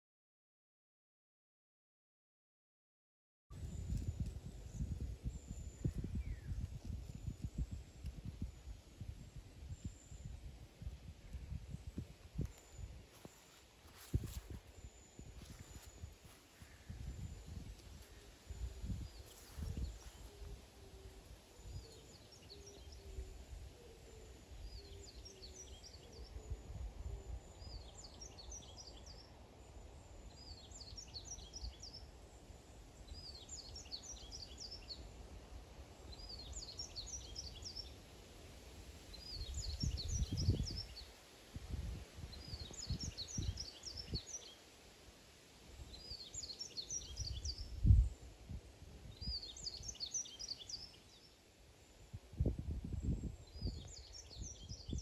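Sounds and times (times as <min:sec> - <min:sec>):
songbird singing: 0:03.6 - 0:38.1, 0:38.9 - 0:44.8, 0:45.7 - 0:55.0.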